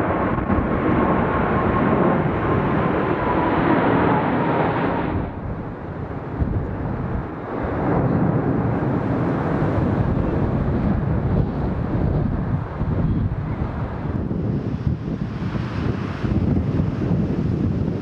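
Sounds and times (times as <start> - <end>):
jet roar with whine: 0.0 - 18.0.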